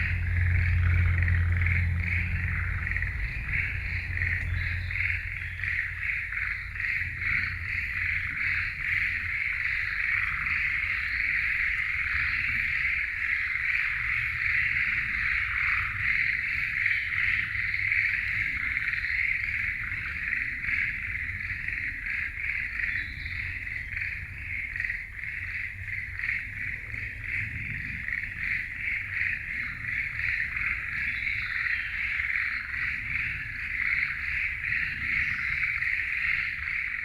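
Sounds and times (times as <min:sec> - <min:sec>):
frogs calling in chorus: 0:00.0 - 0:37.0
low steady rumble: 0:00.0 - 0:37.0.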